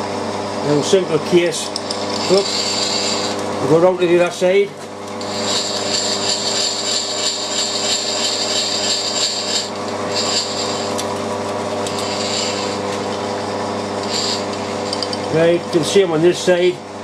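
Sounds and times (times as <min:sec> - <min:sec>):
milling machine humming: 0:00.0 - 0:17.0.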